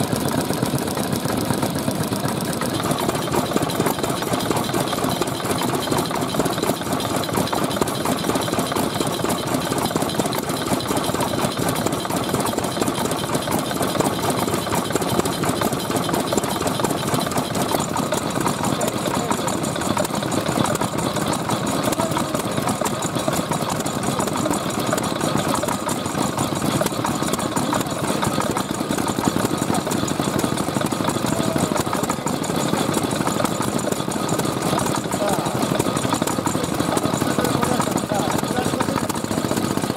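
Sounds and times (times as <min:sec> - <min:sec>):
stationary engines knocking: 0:00.0 - 0:39.9.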